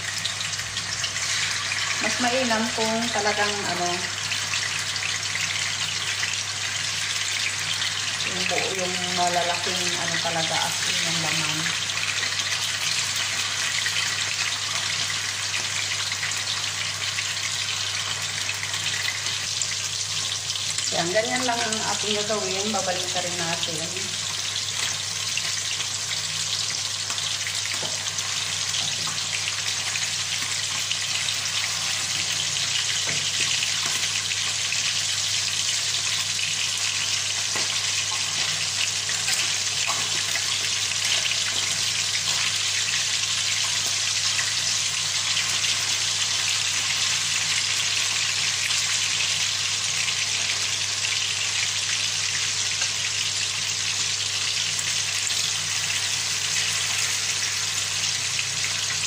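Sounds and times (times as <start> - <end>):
fish sizzling in oil: 0.0 - 59.0.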